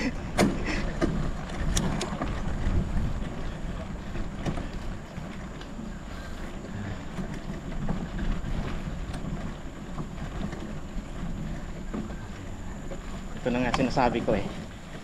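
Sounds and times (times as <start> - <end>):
bike tyres rumbling on gravel: 0.0 - 15.0
small clicks and rattles: 0.0 - 15.0
wind on microphone: 1.1 - 13.2.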